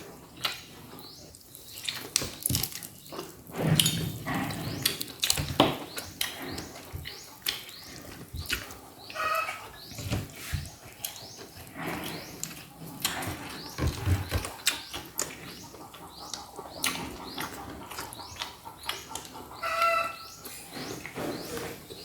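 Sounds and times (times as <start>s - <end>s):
chewing and lip-smacking: 0.0s - 22.0s.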